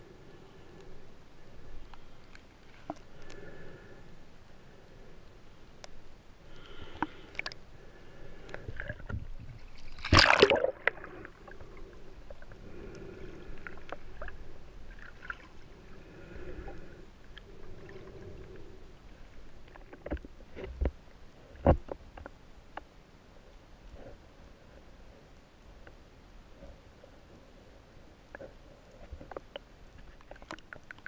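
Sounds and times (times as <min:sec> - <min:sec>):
muffled underwater water noise: 0:00.0 - 0:31.0.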